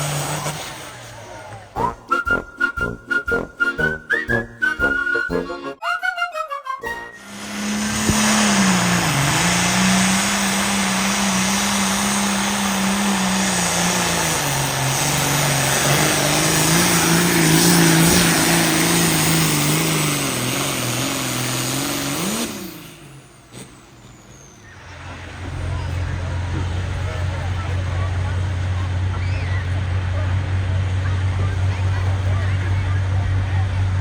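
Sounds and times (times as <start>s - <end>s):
engine running hard under load: 0.0s - 5.1s, 7.0s - 34.0s.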